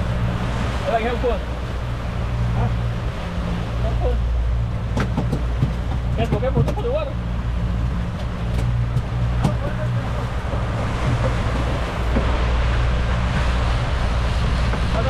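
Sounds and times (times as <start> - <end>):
boat engine droning: 0.0 - 15.0
water rushing from wake: 0.0 - 15.0
wind on microphone: 0.0 - 15.0.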